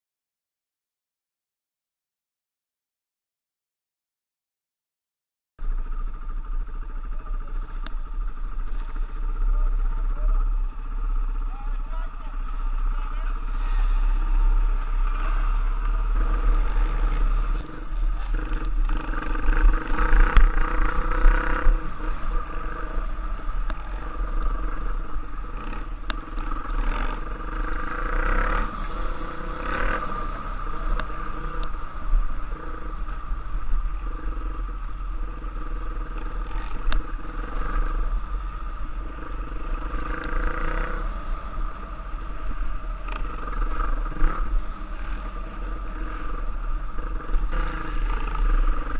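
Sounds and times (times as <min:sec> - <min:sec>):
motorcycle engine revving: 0:05.6 - 0:48.9.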